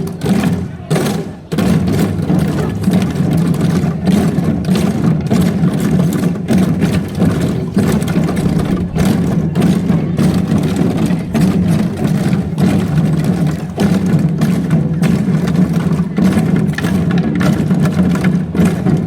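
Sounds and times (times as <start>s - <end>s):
hourglass drums beaten in rhythm: 0.0s - 19.0s.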